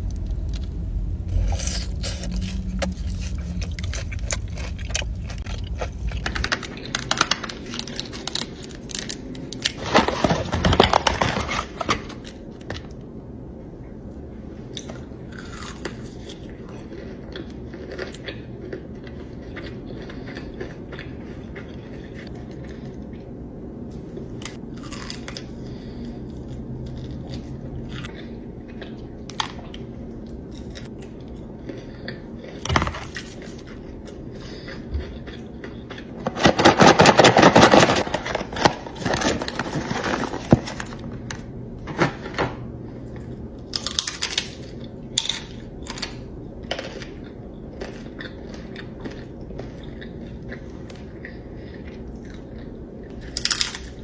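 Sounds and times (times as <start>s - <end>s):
crunchy bites and chewing: 0.1s - 12.4s, 14.7s - 23.0s, 24.0s - 29.8s, 30.5s - 41.0s, 43.2s - 54.0s.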